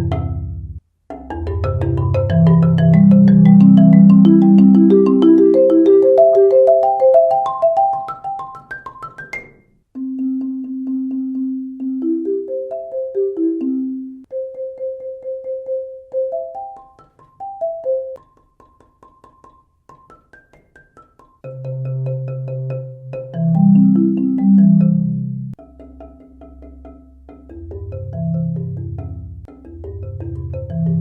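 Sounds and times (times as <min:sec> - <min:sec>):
marimba rolled notes: 0:00.0 - 0:18.2, 0:20.3 - 0:31.0.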